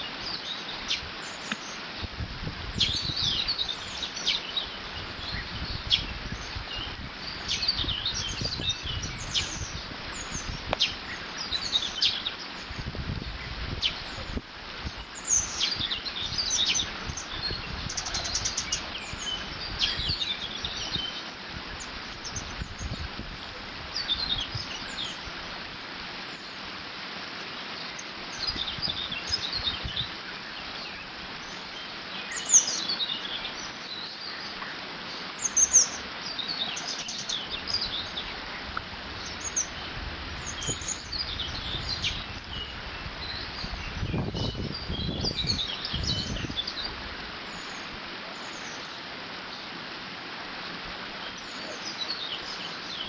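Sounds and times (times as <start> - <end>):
low wind gusts: 0.0 - 53.0
songbirds chirping: 0.0 - 53.0
water running through dam: 0.0 - 53.0.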